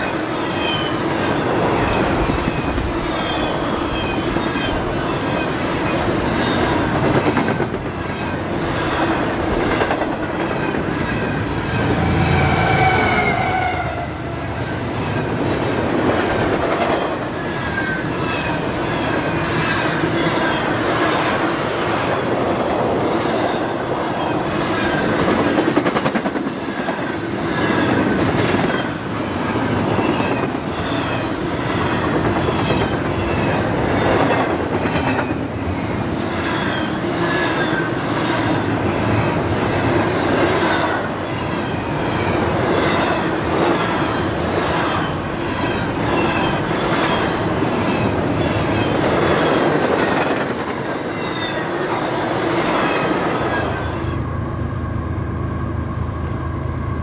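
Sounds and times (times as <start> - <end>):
freight train rumble and clatter: 0.0 - 57.0.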